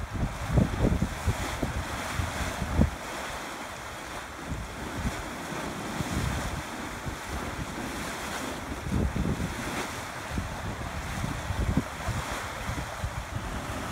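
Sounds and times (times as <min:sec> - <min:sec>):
boiling mud pot churning: 0:00.0 - 0:13.9
wind buffeting microphone: 0:00.0 - 0:13.9.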